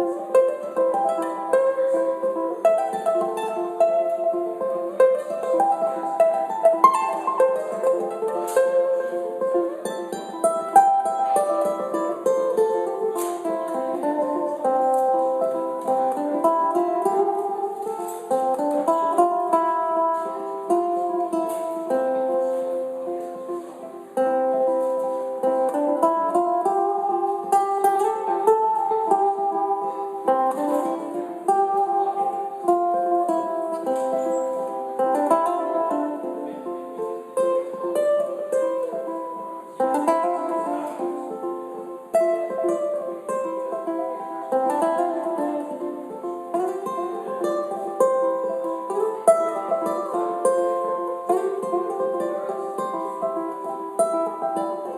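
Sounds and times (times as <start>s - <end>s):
looped ukulele playing: 0.0s - 54.9s.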